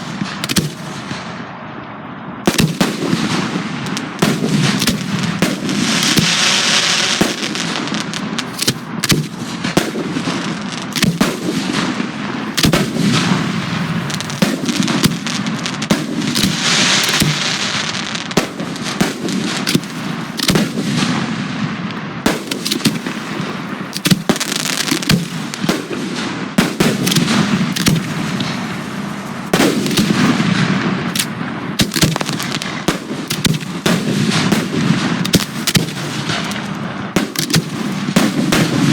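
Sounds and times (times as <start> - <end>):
dense fireworks crackling: 0.0 - 38.9
fireworks bangs: 0.0 - 38.9.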